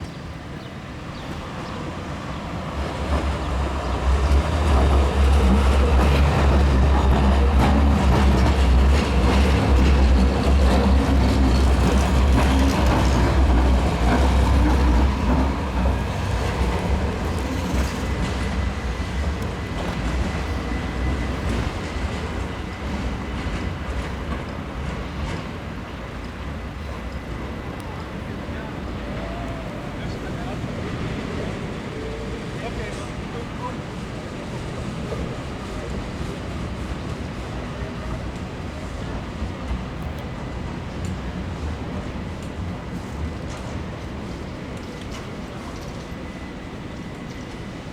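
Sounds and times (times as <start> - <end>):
tram rumbling past on rails: 0.0 - 47.9.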